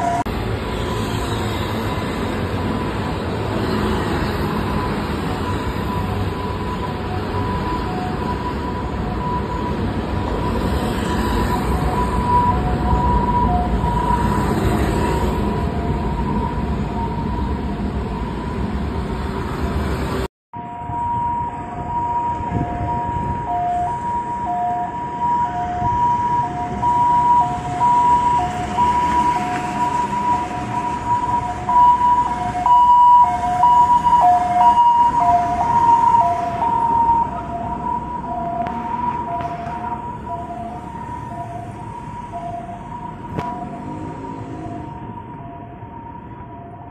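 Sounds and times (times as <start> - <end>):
heavy traffic rumble: 0.0 - 46.9
two-tone ambulance siren: 0.0 - 46.9.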